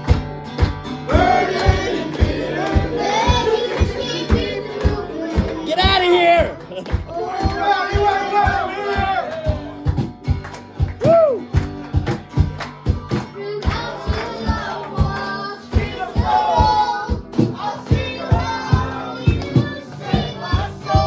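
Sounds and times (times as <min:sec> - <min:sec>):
band with steady drum beat: 0:00.0 - 0:21.0
people singing worship music: 0:00.9 - 0:10.0, 0:11.4 - 0:21.0.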